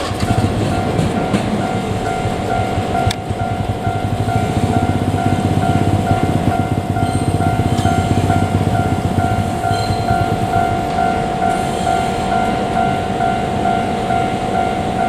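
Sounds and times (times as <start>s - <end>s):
level crossing alarm dinging: 0.0s - 15.0s
train rumbling on rails: 0.0s - 15.0s.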